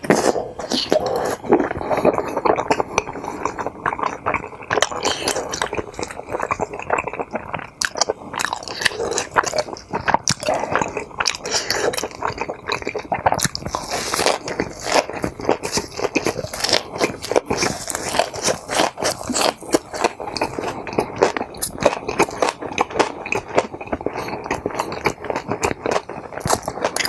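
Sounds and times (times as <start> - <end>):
mouth clicks and smacks: 0.0 - 27.0
wet chewing of food: 0.0 - 27.0.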